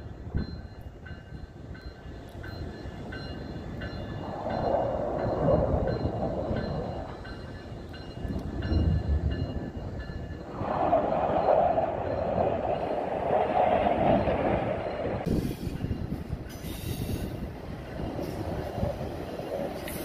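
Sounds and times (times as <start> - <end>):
train engine and wheel rumble: 0.0 - 20.0.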